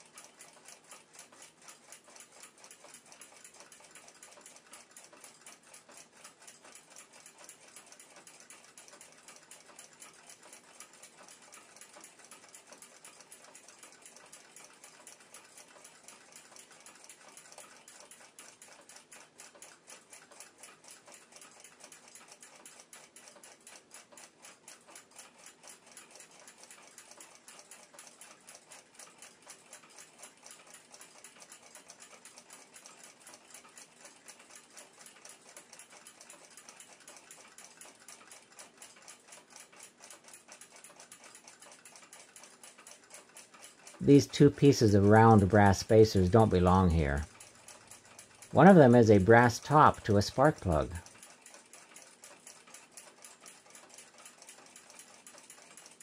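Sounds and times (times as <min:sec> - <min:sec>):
pendulum clock ticking: 0:00.0 - 0:56.0.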